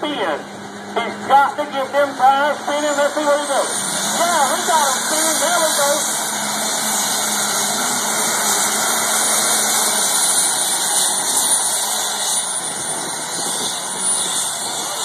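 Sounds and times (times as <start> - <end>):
diesel tractor engine at full power: 0.0 - 15.0.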